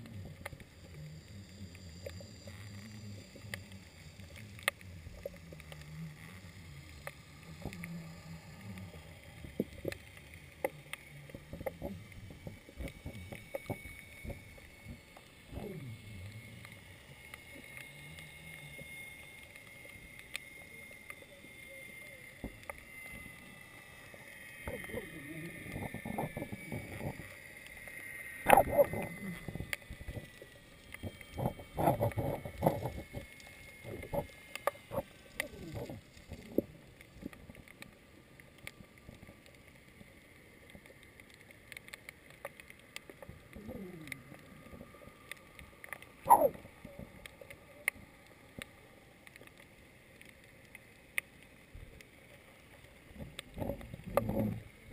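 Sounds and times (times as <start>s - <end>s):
faint high whine: 0.0s - 54.9s.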